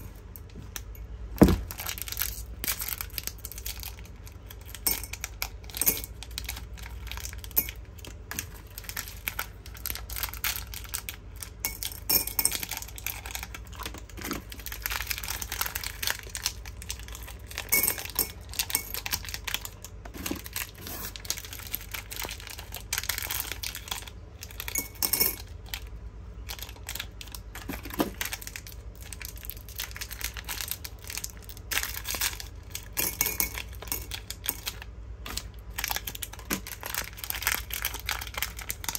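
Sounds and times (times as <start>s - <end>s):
candies and plastic packaging handled: 0.0s - 38.9s.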